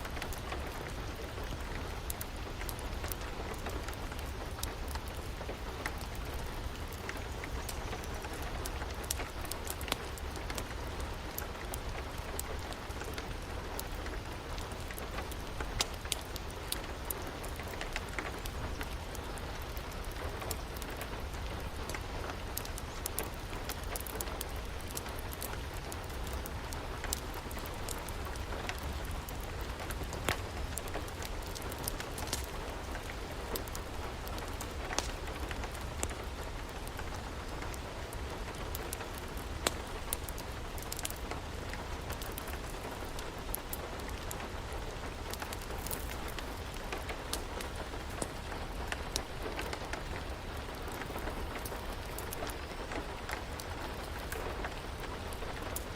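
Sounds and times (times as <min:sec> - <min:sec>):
rain falling: 0:00.0 - 0:55.9
wood fire crackling: 0:00.0 - 0:55.9.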